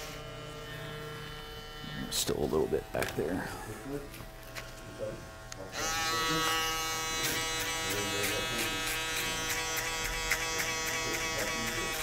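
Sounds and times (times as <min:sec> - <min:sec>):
electric shaver buzzing: 0:00.0 - 0:12.0.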